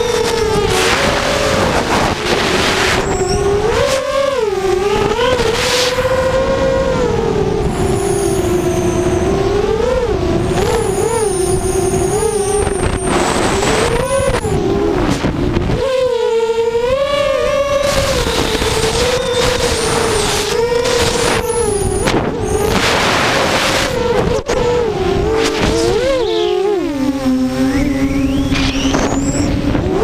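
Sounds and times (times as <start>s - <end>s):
wind noise rushes: 0.0s - 15.9s, 16.8s - 30.0s
quadcopter motors whining: 0.0s - 30.0s.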